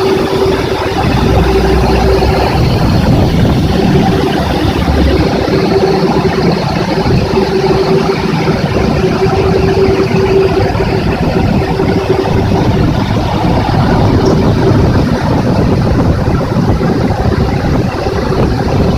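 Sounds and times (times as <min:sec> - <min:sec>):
car wash rushing noise: 0:00.0 - 0:18.9
motor hum: 0:00.0 - 0:18.9.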